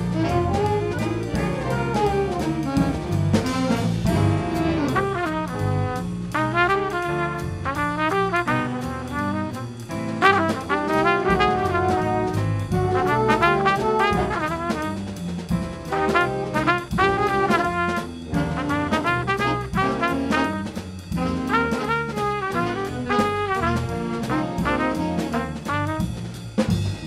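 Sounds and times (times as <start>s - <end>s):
brass band playing jazz tune: 0.0s - 27.0s.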